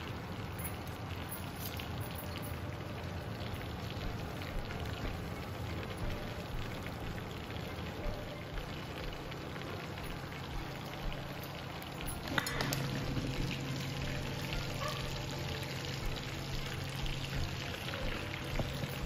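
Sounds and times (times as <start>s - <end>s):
fries sizzling in hot oil: 0.0s - 19.0s.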